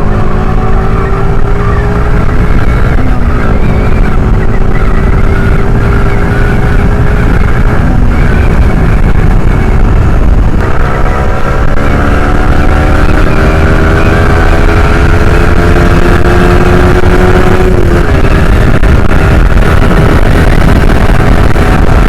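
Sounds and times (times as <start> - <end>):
motorcycle engine revving: 0.0 - 22.0
wind rumble on microphone: 0.0 - 22.0.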